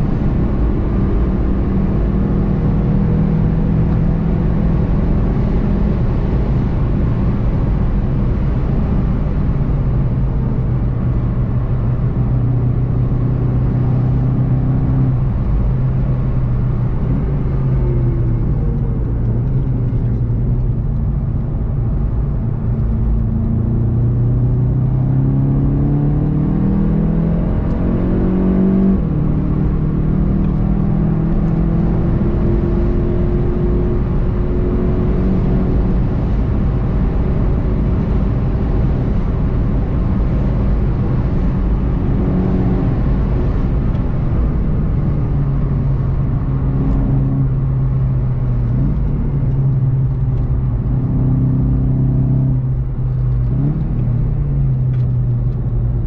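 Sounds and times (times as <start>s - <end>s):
car engine at speed: 0.0s - 56.0s
road and wind noise: 0.0s - 56.0s.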